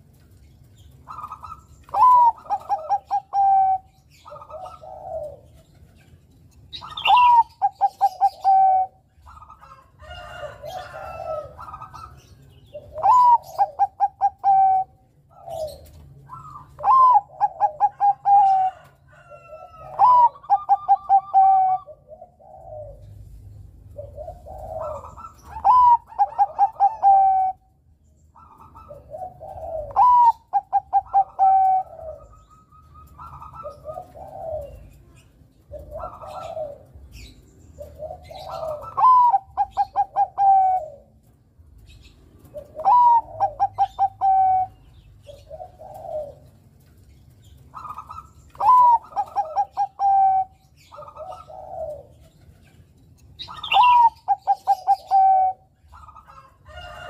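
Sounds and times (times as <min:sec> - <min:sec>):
dove cooing song: 0:00.0 - 0:57.0.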